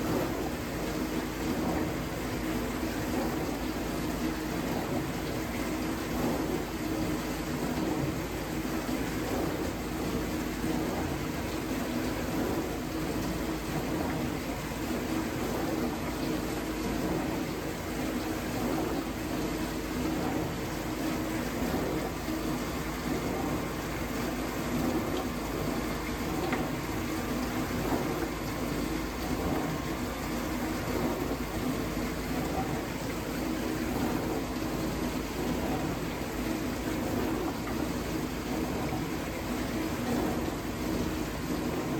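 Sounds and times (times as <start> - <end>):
dishwasher pump hum: 0.0 - 41.9.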